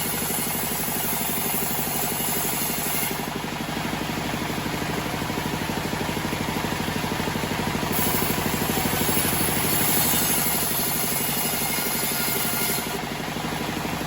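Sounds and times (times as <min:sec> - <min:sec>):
bandsaw sawmill engine running: 0:00.0 - 0:14.0.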